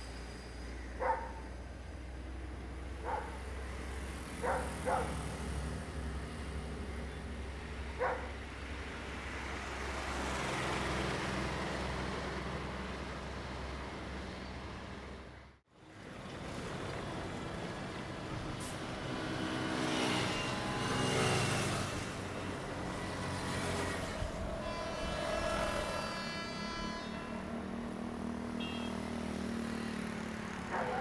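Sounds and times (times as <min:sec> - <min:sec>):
diesel train running past: 0:00.0 - 0:31.0.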